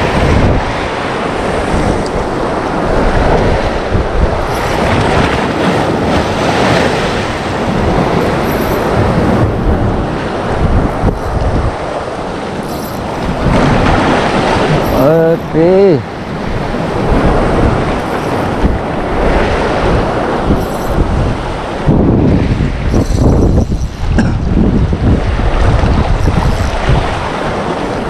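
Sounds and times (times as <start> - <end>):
sea waves washing on shore: 0.0 - 28.0
wind buffeting microphone: 0.0 - 28.0.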